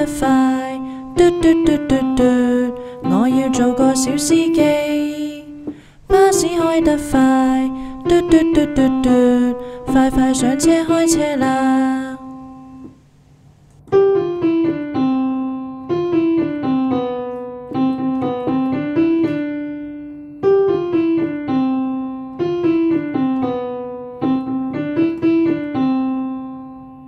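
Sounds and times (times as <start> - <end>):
piano melody over bass notes: 0.0 - 12.9, 13.9 - 27.0.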